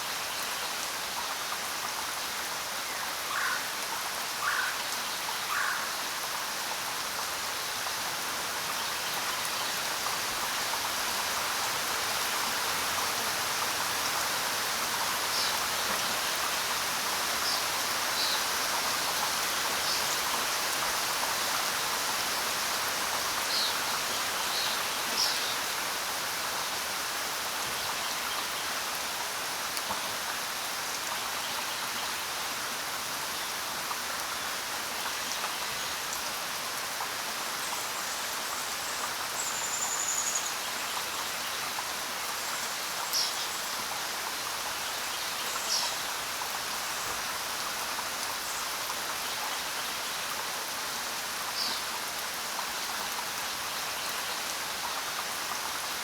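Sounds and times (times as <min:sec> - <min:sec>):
rain falling on ground: 0:00.0 - 0:56.0.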